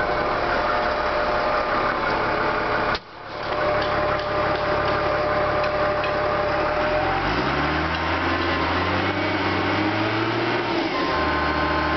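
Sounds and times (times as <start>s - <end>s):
diesel engine revving: 0.0s - 11.9s.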